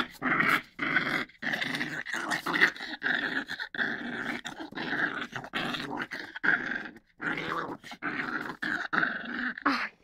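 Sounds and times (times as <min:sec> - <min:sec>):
dog growling: 0:00.0 - 0:10.0.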